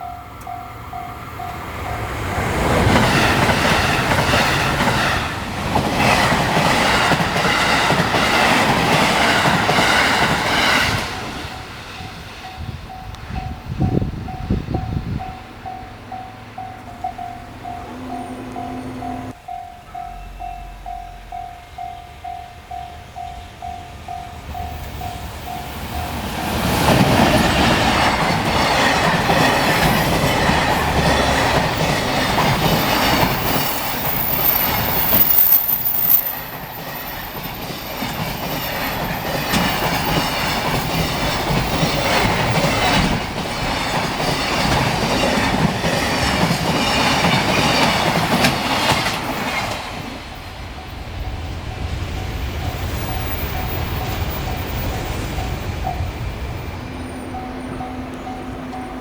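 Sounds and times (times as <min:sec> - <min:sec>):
level-crossing warning bell: 0:00.0 - 0:59.0
train wheels clacking on rails: 0:00.0 - 0:59.0.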